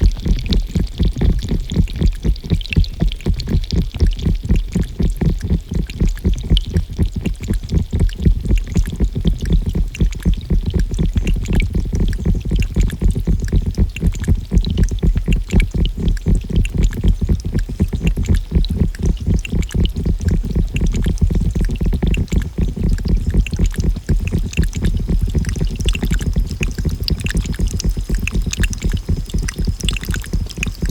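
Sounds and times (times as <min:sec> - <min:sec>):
drip-like ticks: 0:00.0 - 0:30.9
water pouring and gurgling: 0:00.0 - 0:30.9.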